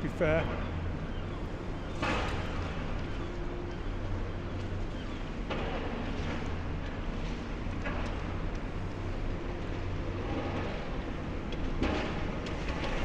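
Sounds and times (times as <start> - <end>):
demolition machinery rumble: 0.0 - 13.0.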